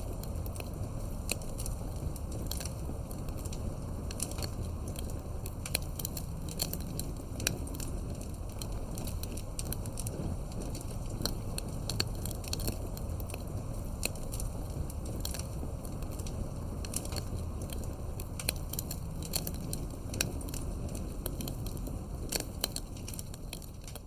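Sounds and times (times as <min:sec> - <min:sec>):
campfire crackling and popping: 0:00.0 - 0:24.0
low rumble of flames: 0:00.0 - 0:24.0.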